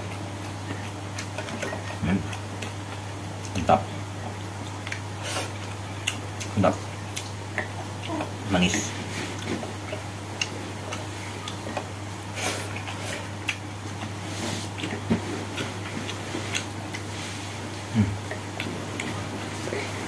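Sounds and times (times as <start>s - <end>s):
chewing smacks: 0.0s - 17.1s, 18.2s - 20.0s
steady low hum: 0.0s - 20.0s.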